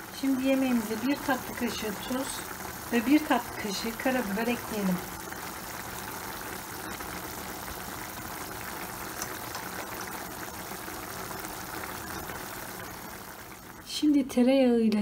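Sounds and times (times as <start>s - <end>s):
food sizzling in frying pan: 0.0s - 14.4s.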